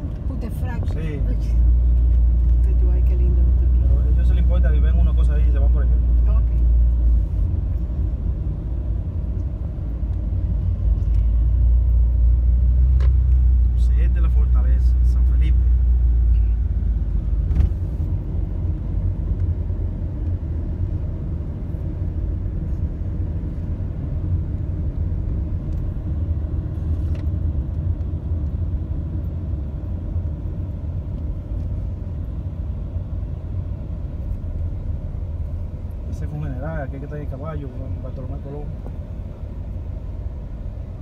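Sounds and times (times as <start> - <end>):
road and engine rumble in car: 0.0 - 41.0.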